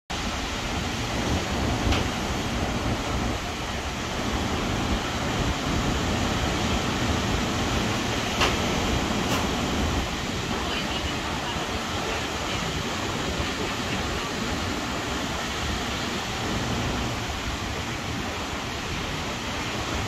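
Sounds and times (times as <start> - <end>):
waves breaking on a beach: 0.1 - 20.0.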